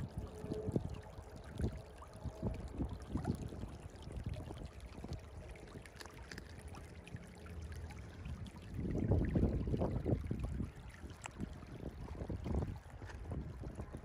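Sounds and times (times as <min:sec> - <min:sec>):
creek water babbling over rocks: 0:00.0 - 0:14.0.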